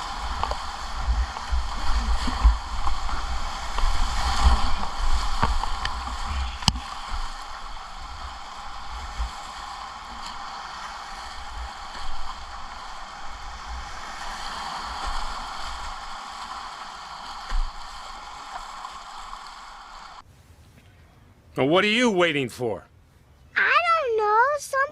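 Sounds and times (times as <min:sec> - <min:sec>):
whitewater rushing: 0:00.0 - 0:20.2
wind buffeting microphone: 0:00.0 - 0:20.2.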